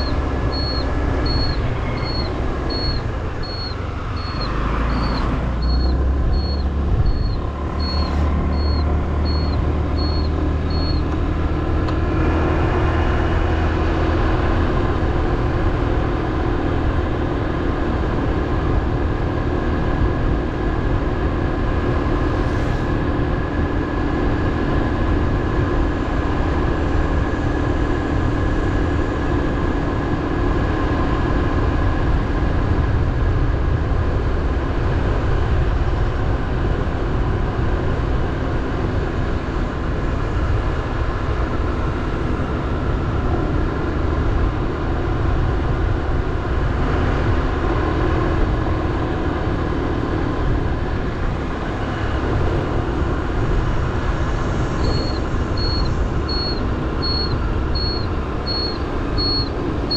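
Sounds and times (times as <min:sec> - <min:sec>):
motorbike engine drone: 0:00.0 - 0:59.9
wind and road noise: 0:00.0 - 0:59.9.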